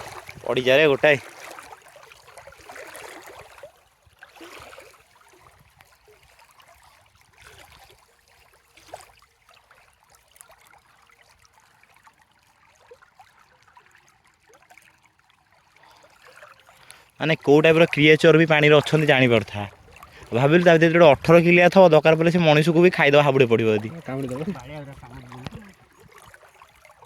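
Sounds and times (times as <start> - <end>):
river water trickling: 0.0 - 27.0
small splashes: 0.0 - 27.0.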